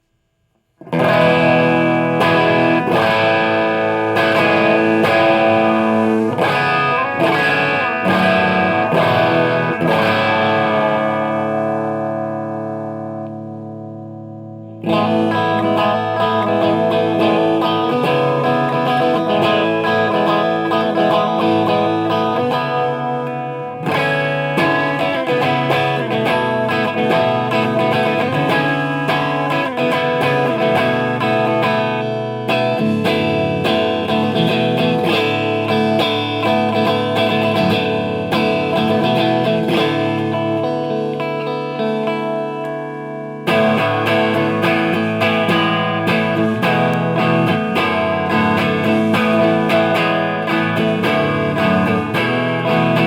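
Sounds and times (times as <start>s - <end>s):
electric guitar riffs and chords: 0.0s - 53.0s.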